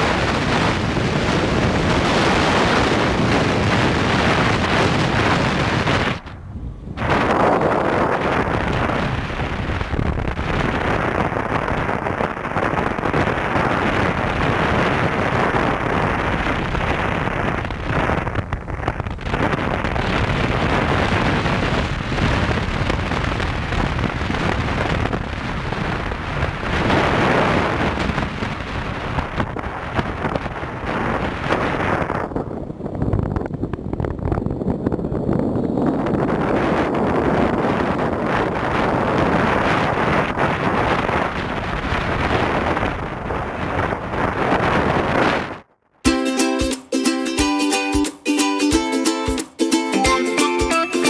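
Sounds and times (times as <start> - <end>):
wind buffeting microphone: 0.0 - 45.8.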